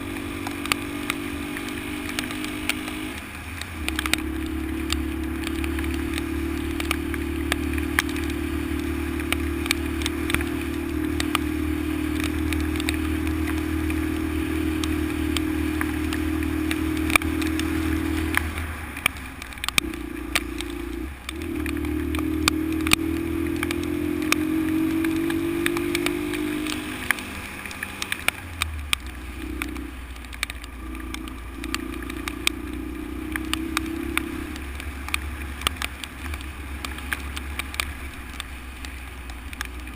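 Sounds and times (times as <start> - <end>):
sharp rattles and clicks: 0.0 - 39.9.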